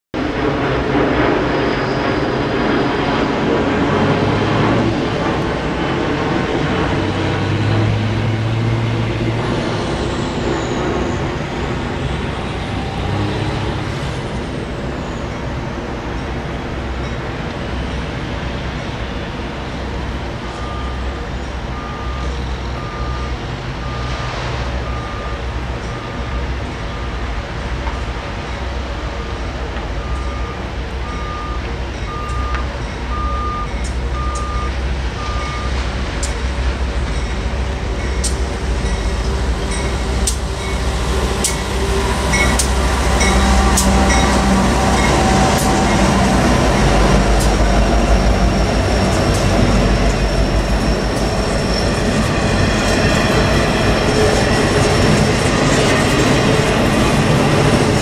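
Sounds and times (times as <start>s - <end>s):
rail noise: 0.2s - 58.0s
train engine rumble: 0.2s - 58.0s.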